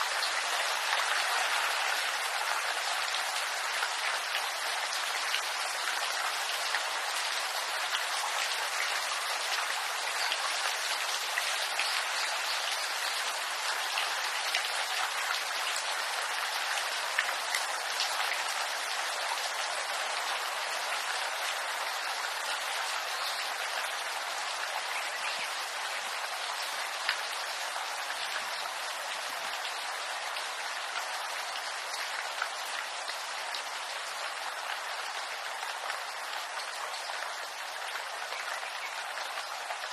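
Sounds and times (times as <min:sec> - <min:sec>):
rain on bamboo leaves: 0:00.0 - 0:39.9.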